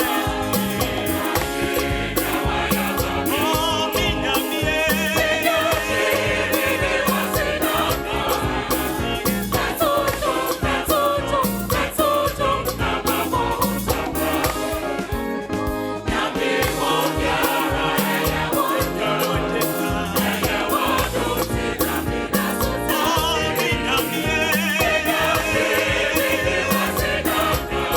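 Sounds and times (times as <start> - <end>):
gospel choir singing with band: 0.0 - 27.9.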